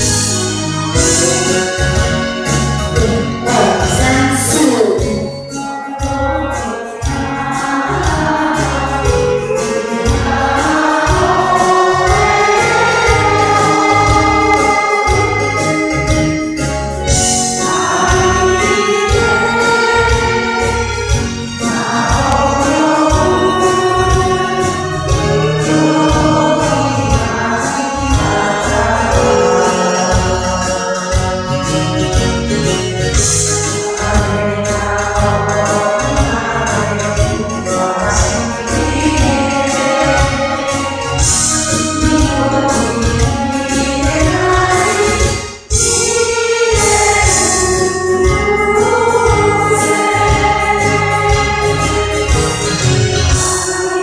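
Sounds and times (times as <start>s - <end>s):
group singing in unison: 0.0s - 5.3s, 5.9s - 54.0s
karaoke backing track: 0.0s - 54.0s.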